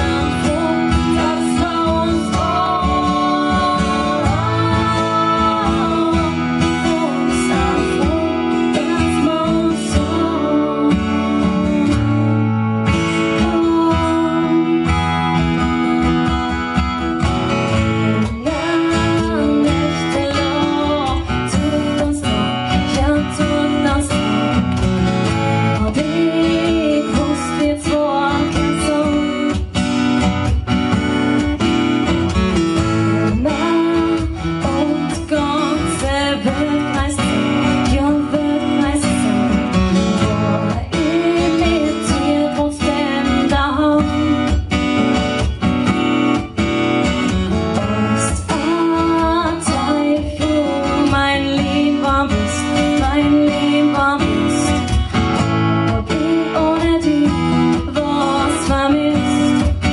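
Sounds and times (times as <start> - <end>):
woman singing into a microphone: 0.0 - 16.7, 17.5 - 59.9
acoustic guitars strumming: 0.0 - 59.9.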